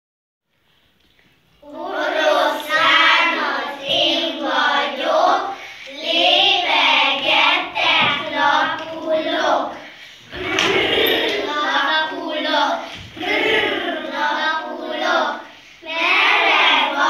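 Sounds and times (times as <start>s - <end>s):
children singing in unison: 1.6s - 17.0s.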